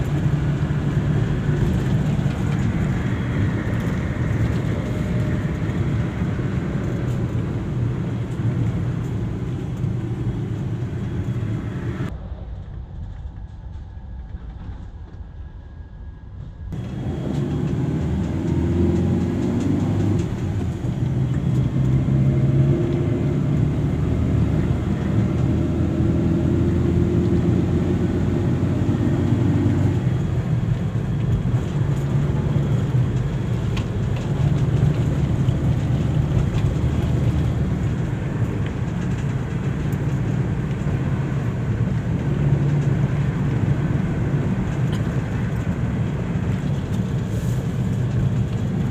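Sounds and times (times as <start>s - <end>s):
vehicle rumble: 0.0s - 48.9s.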